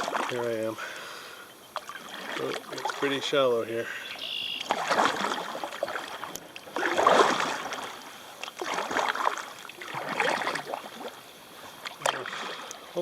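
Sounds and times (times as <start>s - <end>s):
paddle strokes splashing water: 0.0s - 13.0s.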